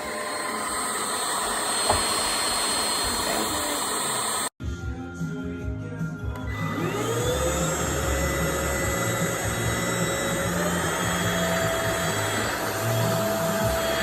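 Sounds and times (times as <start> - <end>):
stick vacuum motor whine: 0.0 - 4.5, 6.3 - 14.0.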